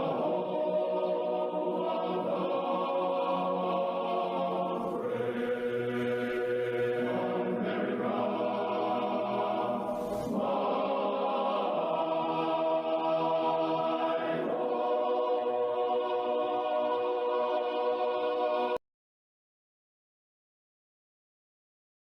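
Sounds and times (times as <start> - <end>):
choir singing an anthem: 0.0 - 18.8.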